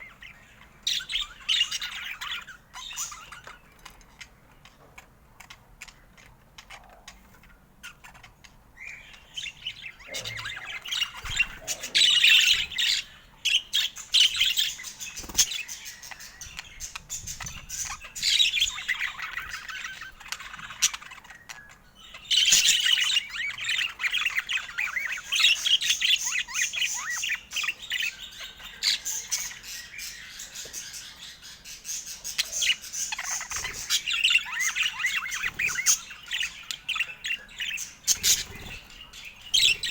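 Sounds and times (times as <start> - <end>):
budgerigar chattering and squawking: 5.5 - 39.9.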